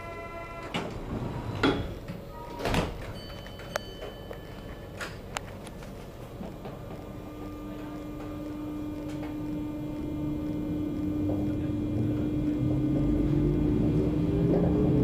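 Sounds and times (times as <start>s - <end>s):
electric train hum: 0.0s - 15.0s
low train rumble: 0.0s - 15.0s.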